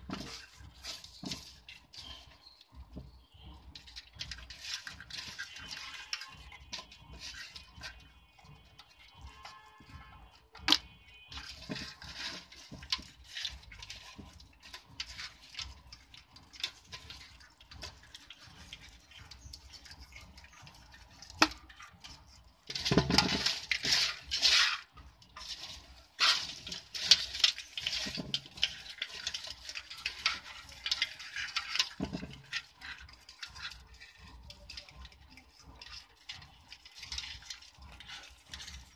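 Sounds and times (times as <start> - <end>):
crab shells clicking and scratching: 0.0 - 38.9
water splashing in a bucket: 0.0 - 38.9.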